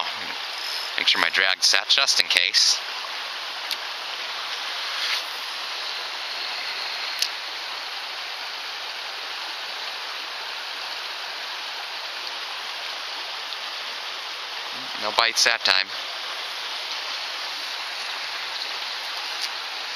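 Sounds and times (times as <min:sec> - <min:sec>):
water rushing over rocks: 0:00.0 - 0:19.9.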